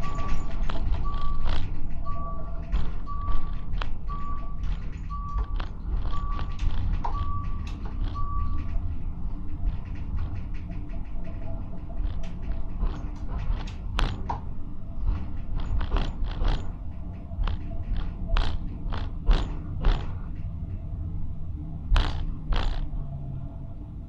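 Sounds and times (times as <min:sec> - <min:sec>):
wheels clicking on track: 0:00.0 - 0:20.9, 0:21.9 - 0:23.0
tram rumbling on rails: 0:00.0 - 0:24.0.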